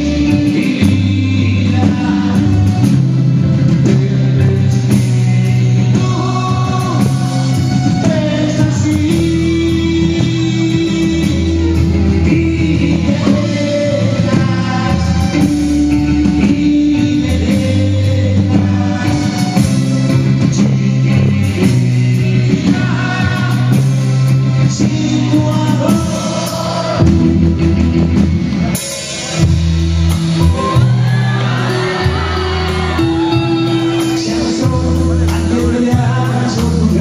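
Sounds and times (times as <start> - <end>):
man singing: 0.0 - 27.7, 28.6 - 37.0
live pop-rock band playing: 0.0 - 37.0.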